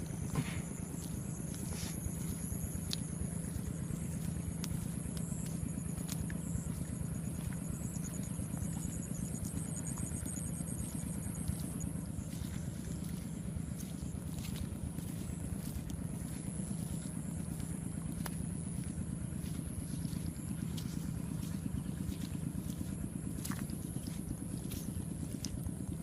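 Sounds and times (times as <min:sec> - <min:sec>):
small engine humming: 0:00.0 - 0:26.0.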